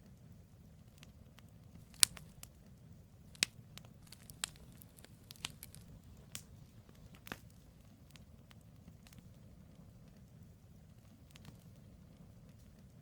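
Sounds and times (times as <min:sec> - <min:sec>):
campfire crackles and pops: 0:00.0 - 0:13.0
faint low rumble: 0:00.0 - 0:13.0.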